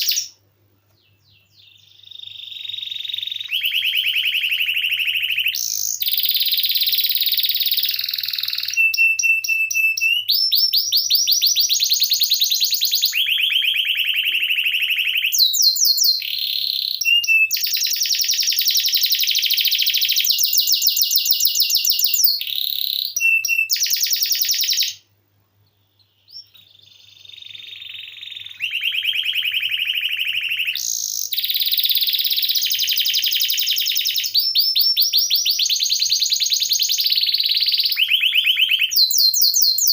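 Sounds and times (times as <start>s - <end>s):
canary singing trills: 0.0s - 0.4s, 1.0s - 25.0s, 25.6s - 39.9s.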